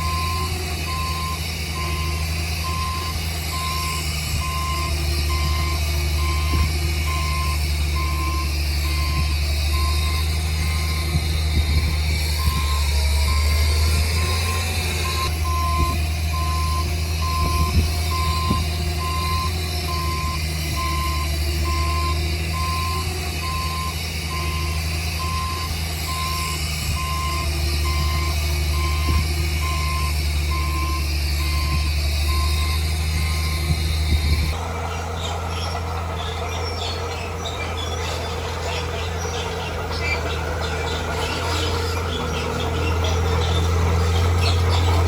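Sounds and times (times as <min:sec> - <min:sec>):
heavy vehicle engine running: 0:00.0 - 0:45.0
reversing alarm beeping: 0:00.0 - 0:45.0.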